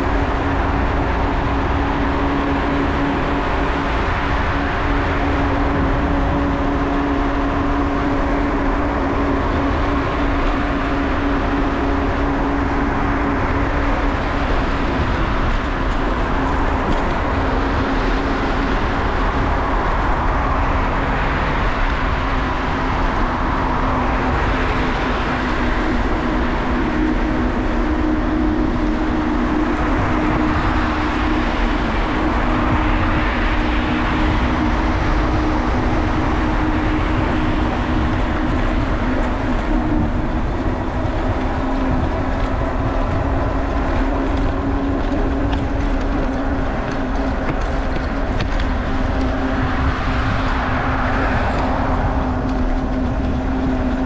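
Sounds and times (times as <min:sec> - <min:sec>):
bicycle rolling noise: 0:00.0 - 0:54.0
steady hum: 0:00.0 - 0:54.0
wind buffeting microphone: 0:00.0 - 0:54.0.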